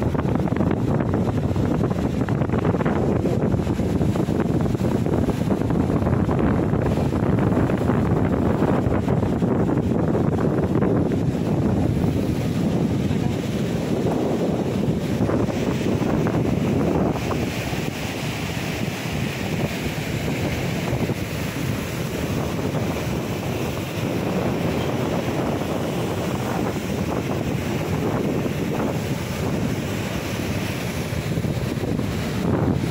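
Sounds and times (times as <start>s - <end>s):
sea surf breaking: 0.0s - 32.9s
wind buffeting microphone: 0.0s - 32.9s.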